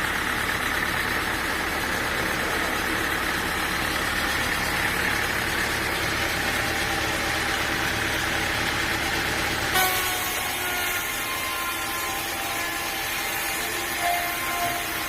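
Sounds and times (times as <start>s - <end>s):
sawmill machinery droning: 0.0s - 15.0s.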